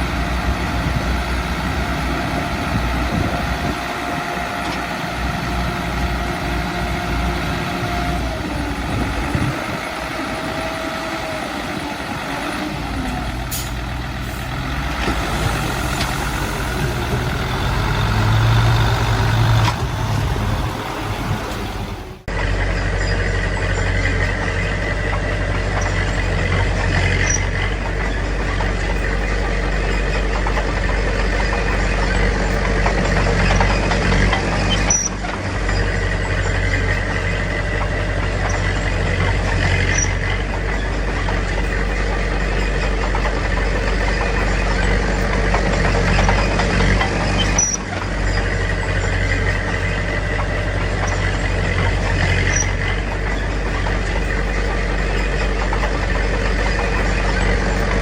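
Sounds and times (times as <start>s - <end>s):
bulldozer and dump truck engines: 0.0s - 58.0s.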